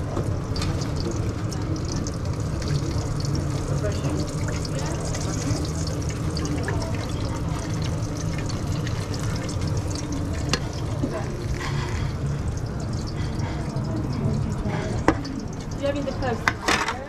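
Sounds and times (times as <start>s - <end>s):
food sizzling: 0.0s - 17.0s.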